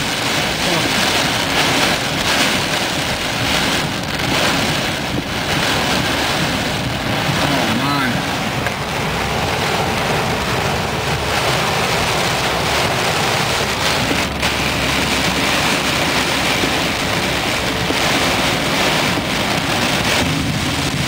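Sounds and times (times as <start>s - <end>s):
heavy rain on car roof: 0.0s - 21.0s.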